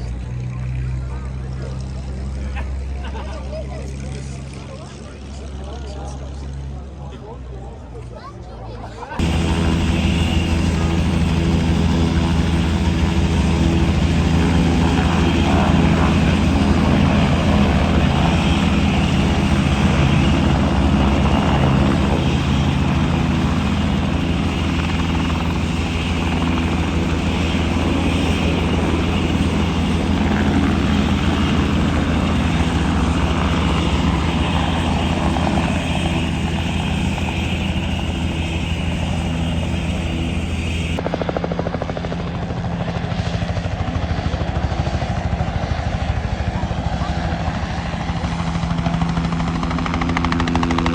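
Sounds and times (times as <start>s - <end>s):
helicopter rotor beating: 0.0s - 6.9s, 9.1s - 50.9s.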